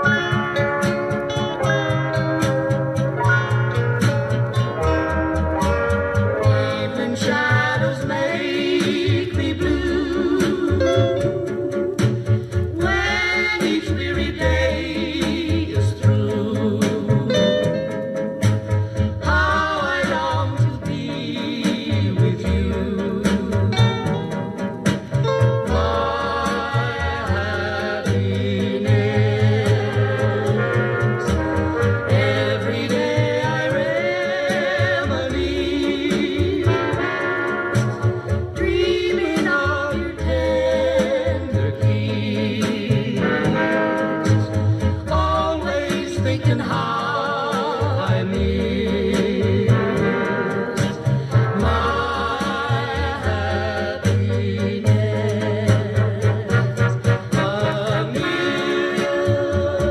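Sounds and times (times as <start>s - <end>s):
song with vocals and guitar: 0.0s - 59.9s.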